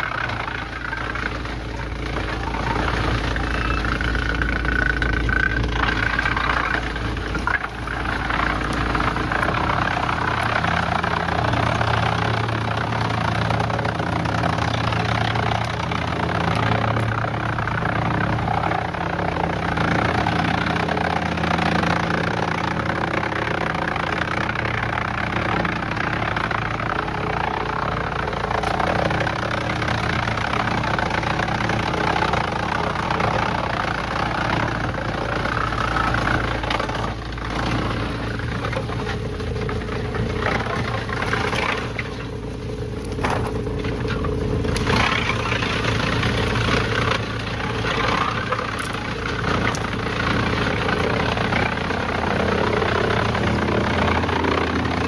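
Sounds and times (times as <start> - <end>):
heavy machinery engine rumbling: 0.0 - 55.0.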